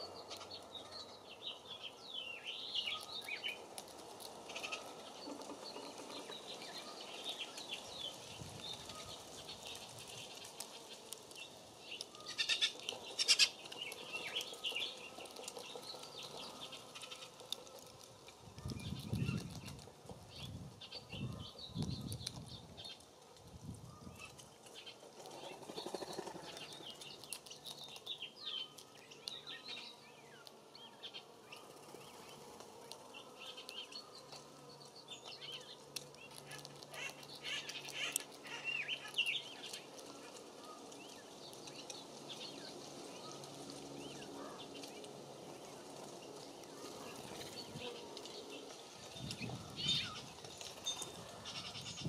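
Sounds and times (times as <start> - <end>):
songbirds chirping: 0.0 - 52.0
wings fluttering: 2.8 - 29.8, 30.4 - 52.0.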